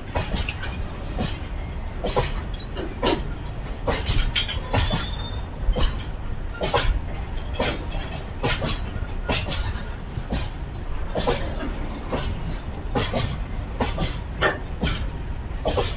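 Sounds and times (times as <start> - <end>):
train wagons rumbling on track: 0.0 - 15.9
wheels clacking over rail joints: 0.0 - 15.9.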